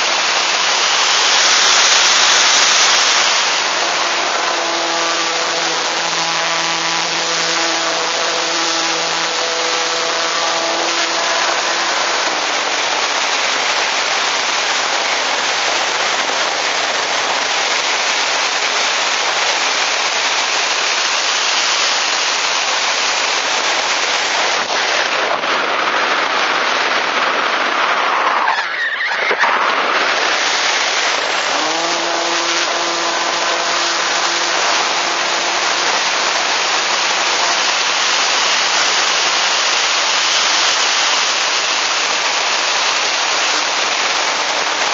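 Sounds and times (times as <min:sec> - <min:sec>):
faint electric motor hum: 0:00.0 - 0:25.2, 0:30.0 - 0:44.9
wind rushing over camera: 0:00.0 - 0:44.9.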